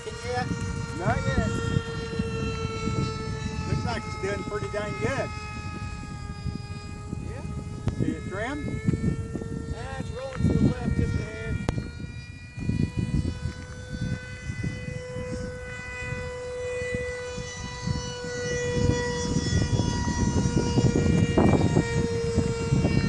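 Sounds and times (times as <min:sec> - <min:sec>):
ducted fans whining: 0:00.0 - 0:23.0
wind rumble on microphone: 0:00.0 - 0:23.0.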